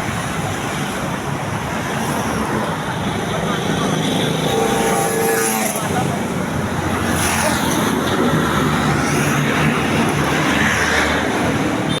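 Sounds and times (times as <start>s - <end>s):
loud outdoor noise: 0.0s - 12.0s.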